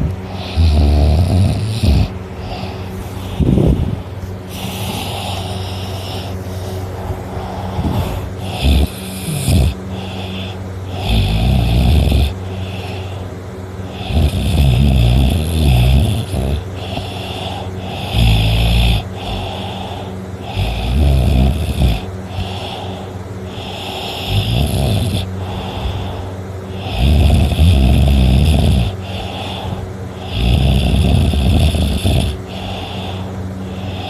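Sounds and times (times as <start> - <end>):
man snoring: 0.0 - 34.0.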